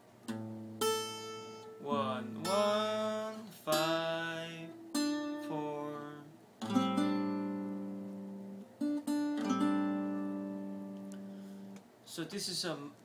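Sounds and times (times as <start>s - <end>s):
acoustic guitar chord ringing: 0.2s - 11.8s
short guitar notes: 0.3s - 11.8s.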